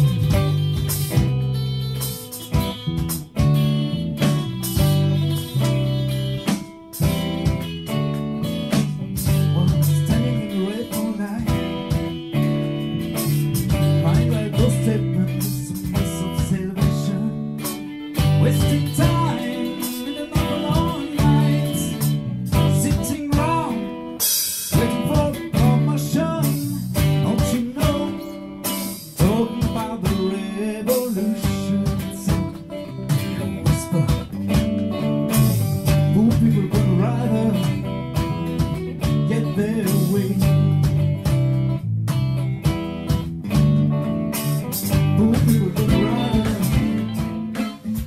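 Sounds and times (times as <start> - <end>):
guitar pop band music: 0.0 - 48.0
steady drum beat: 0.0 - 48.0.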